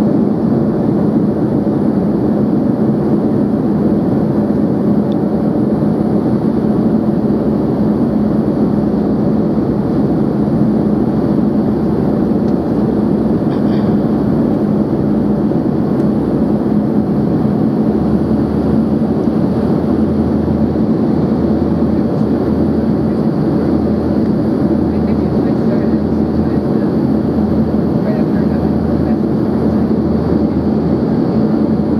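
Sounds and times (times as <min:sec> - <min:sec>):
jet engines humming: 0:00.0 - 0:31.9
low hum: 0:00.0 - 0:31.9
rush of airflow in jet cabin: 0:00.0 - 0:31.9.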